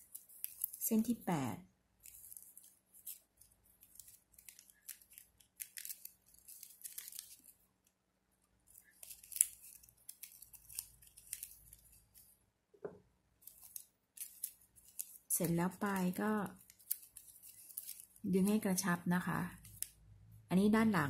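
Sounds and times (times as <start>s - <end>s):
ribbon crinkling: 0.0s - 1.3s, 2.0s - 8.0s, 8.6s - 12.4s, 13.4s - 18.8s, 19.4s - 20.1s.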